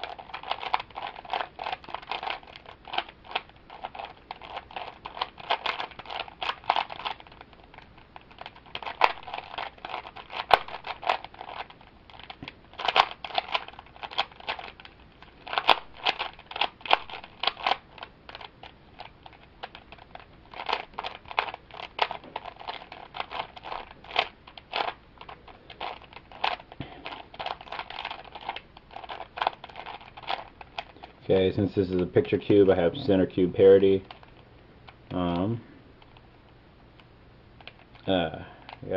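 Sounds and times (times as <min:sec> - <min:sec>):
puzzle cube clicking: 0:00.0 - 0:31.2, 0:33.3 - 0:38.9.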